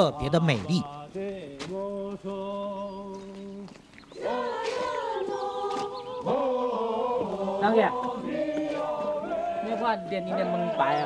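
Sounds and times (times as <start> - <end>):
voices chanting together: 0.0 - 11.0.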